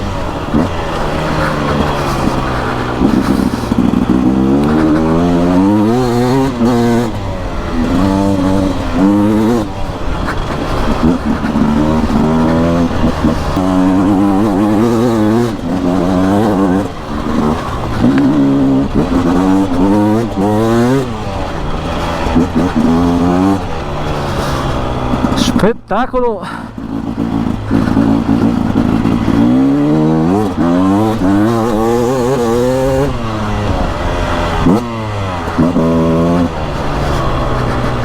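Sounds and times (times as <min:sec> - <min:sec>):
two-stroke motorcycle engine revving: 0:00.0 - 0:38.0.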